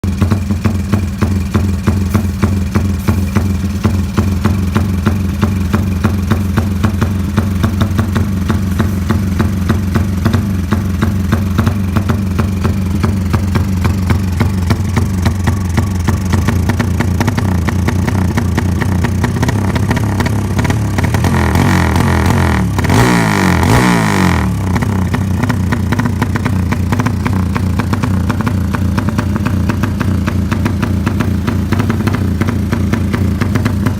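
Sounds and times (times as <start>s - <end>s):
motorcycle engine idling: 0.0s - 33.9s
motorcycle engine revving: 0.0s - 33.9s.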